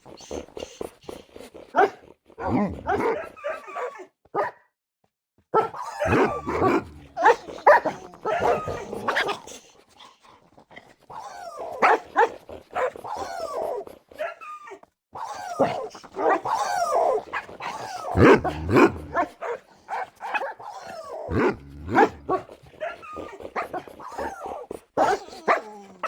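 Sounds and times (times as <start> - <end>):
dogs barking and yipping: 1.8 - 4.5, 5.6 - 9.4, 11.1 - 26.0.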